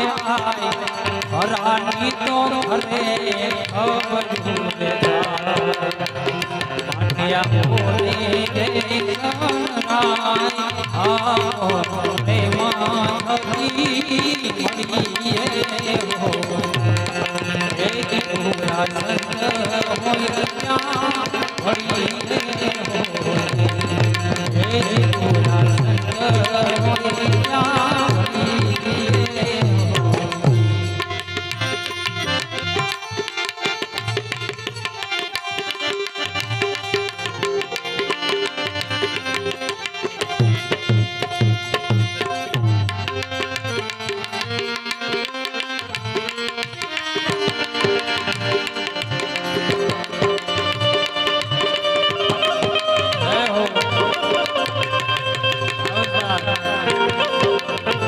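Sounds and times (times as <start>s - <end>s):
harmonium melody: 0.0s - 58.0s
tabla steady rhythm: 0.0s - 58.0s.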